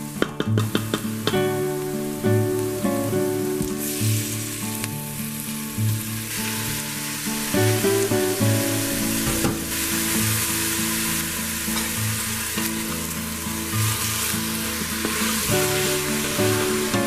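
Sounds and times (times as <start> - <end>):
meat and onion sizzling: 0.0 - 17.0.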